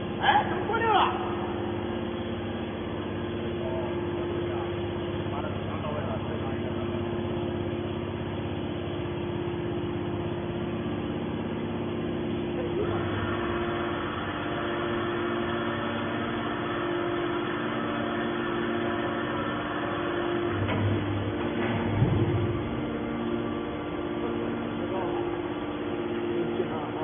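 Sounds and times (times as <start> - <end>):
hydraulic baler motor hum: 0.0 - 27.0
rough full machine noise: 0.0 - 27.0.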